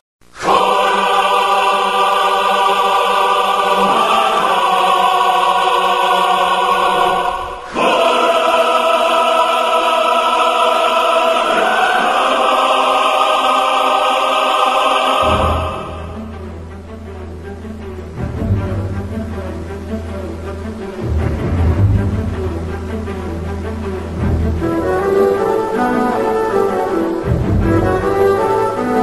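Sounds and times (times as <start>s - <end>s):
choir singing sustained chords: 0.3s - 29.0s.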